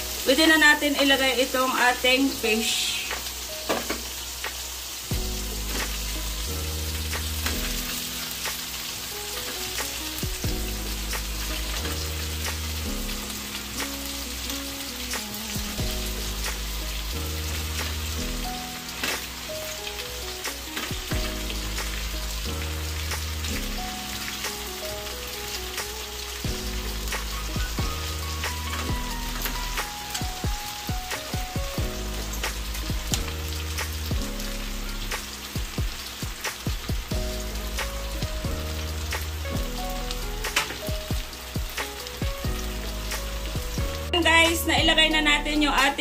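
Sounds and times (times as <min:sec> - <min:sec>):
oil sizzling in frying pan: 0:00.0 - 0:46.0
background music with bass: 0:04.2 - 0:46.0.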